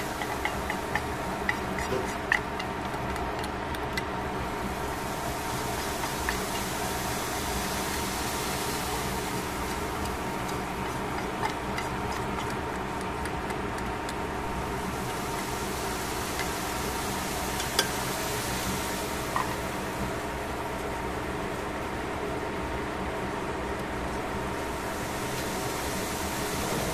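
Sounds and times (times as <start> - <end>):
mechanical hum: 0.0 - 26.9.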